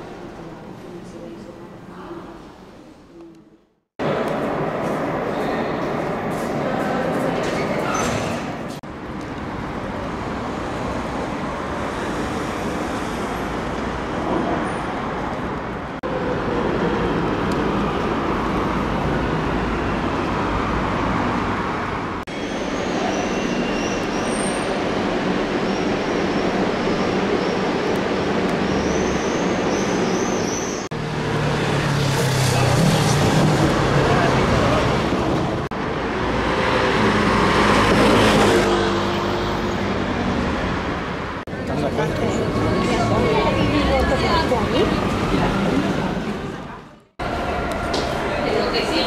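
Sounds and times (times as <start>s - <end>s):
city traffic hum: 0.0s - 49.0s.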